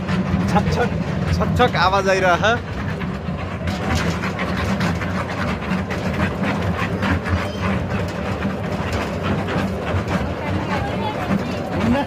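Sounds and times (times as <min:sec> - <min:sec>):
train rumbling on track: 0:00.0 - 0:12.0
train wheels clicking and clacking: 0:00.0 - 0:12.0.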